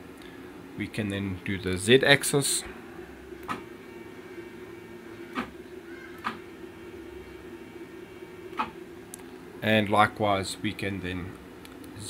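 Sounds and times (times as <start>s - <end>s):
stepper motors humming: 0.0s - 12.0s.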